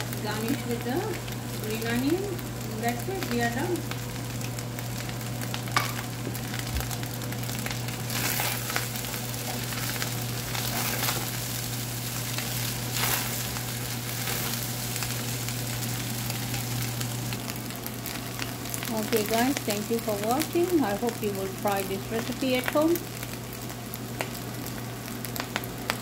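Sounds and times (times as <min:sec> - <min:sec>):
rice sizzling in a frying pan: 0:00.0 - 0:26.0
steady low hum: 0:00.0 - 0:26.0.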